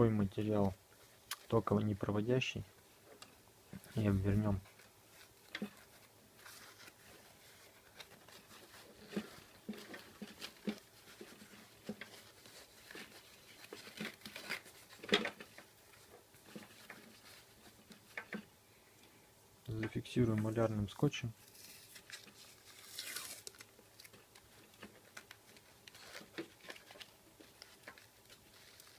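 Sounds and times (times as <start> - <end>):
hands rustling wrapping material: 0.0 - 19.0, 19.7 - 28.9.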